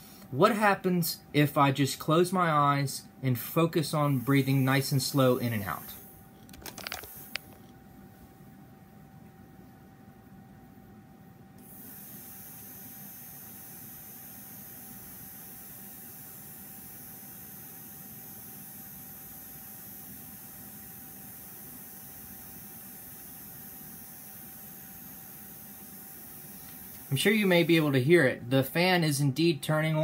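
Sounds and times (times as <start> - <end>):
small fan running: 3.6 - 28.8.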